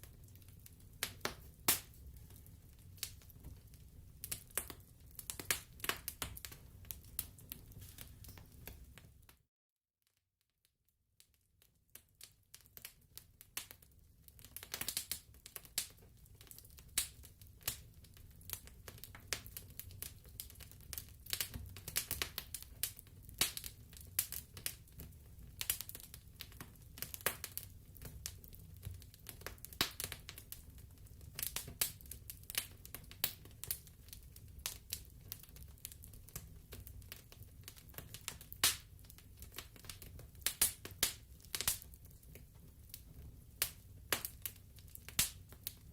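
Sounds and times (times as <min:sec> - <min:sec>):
wood fire crackling and popping: 0:00.0 - 0:09.4, 0:11.7 - 0:45.9.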